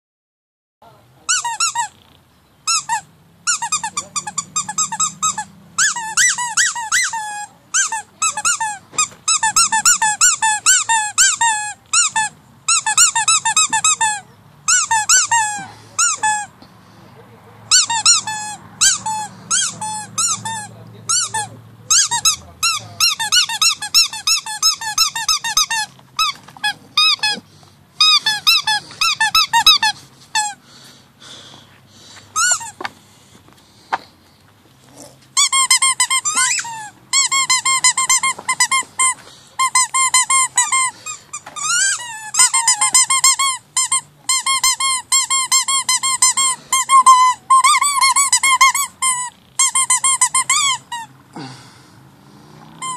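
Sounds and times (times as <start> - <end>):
squeaky dog toy: 1.2 - 16.6, 17.7 - 30.6, 32.4 - 32.9, 34.9 - 51.3, 52.6 - 52.9.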